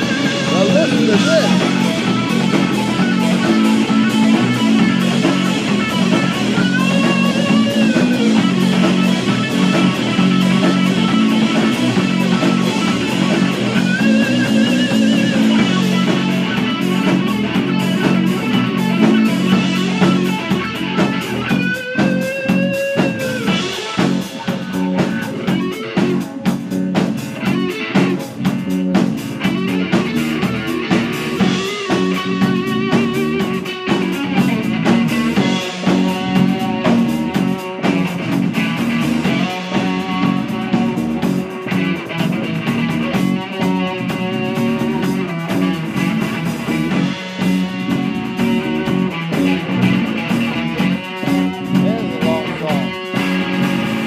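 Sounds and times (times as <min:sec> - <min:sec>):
bass: 0:00.0 - 0:54.0
drums: 0:00.0 - 0:54.0
electric guitar bending notes: 0:00.0 - 0:54.0.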